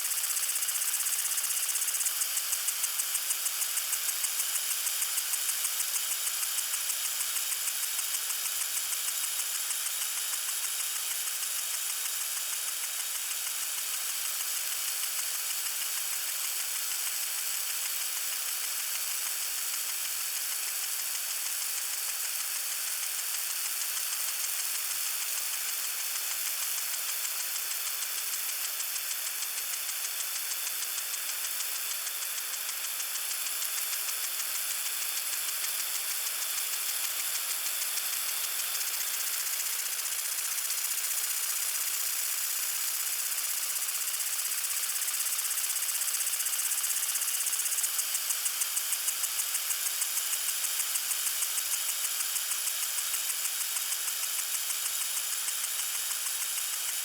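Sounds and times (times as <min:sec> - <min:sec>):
lawn sprinkler spraying water: 0:00.0 - 0:57.0.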